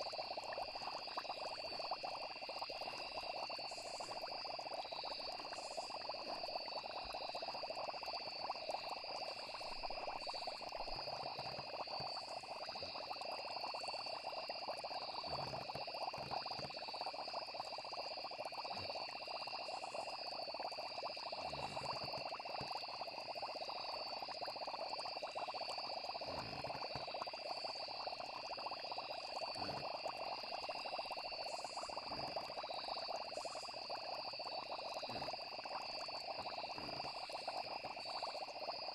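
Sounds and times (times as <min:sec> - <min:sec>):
frogs and insects trilling: 0:00.0 - 0:38.9.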